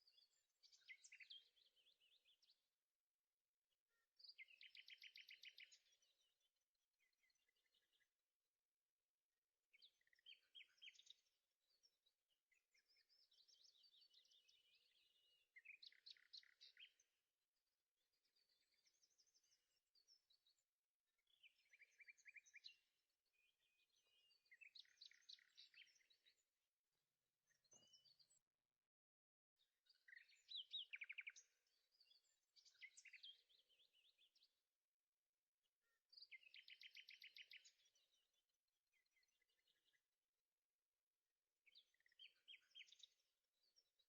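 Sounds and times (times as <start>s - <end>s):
faint bird chirping trills: 0.0s - 44.0s.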